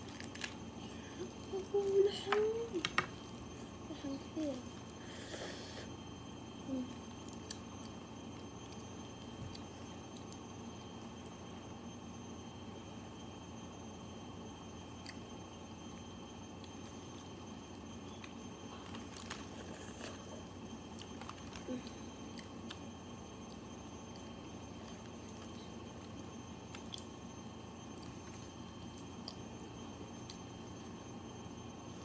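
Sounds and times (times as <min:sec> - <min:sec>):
room hum: 0:00.0 - 0:32.0.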